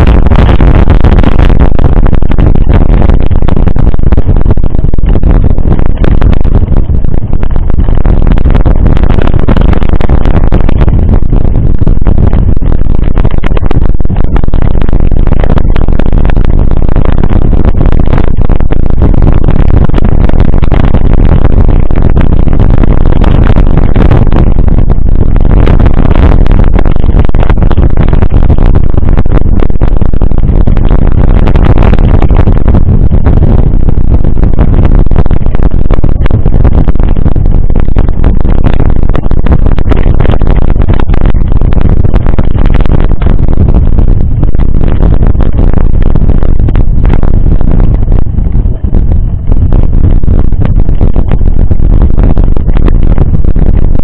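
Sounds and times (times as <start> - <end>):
crackling rattle: 0.0 - 53.9
wind buffeting microphone: 0.0 - 54.0.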